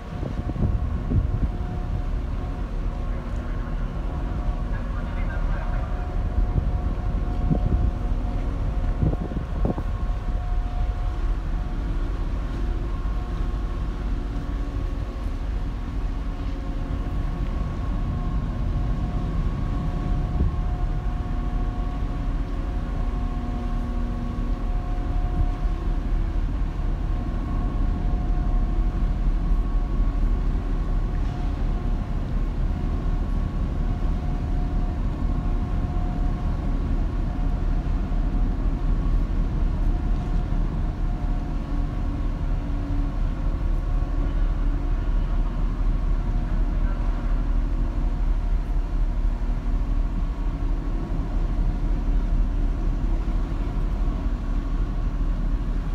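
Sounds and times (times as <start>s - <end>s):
low machinery rumble: 0.0s - 55.9s
steady multi-tone hum: 0.0s - 55.9s.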